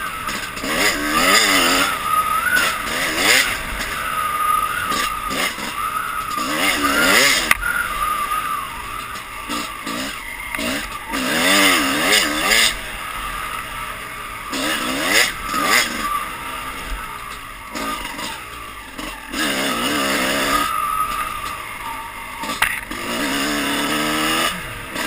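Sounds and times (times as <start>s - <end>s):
dirt bike engine revving: 0.0s - 25.0s
wind and tyre noise: 0.0s - 25.0s.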